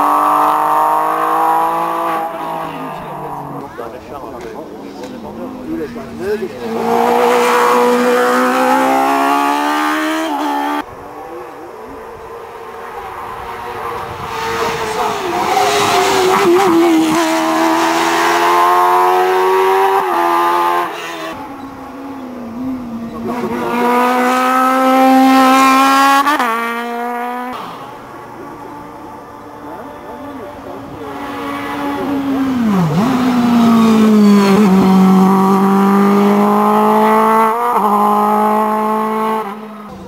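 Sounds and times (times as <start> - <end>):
race car engines accelerating: 0.0 - 40.0.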